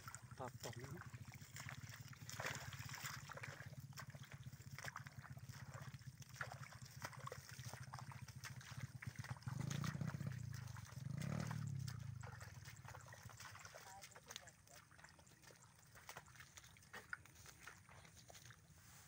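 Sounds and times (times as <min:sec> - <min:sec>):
footsteps squelching through mud: 0:00.0 - 0:19.0.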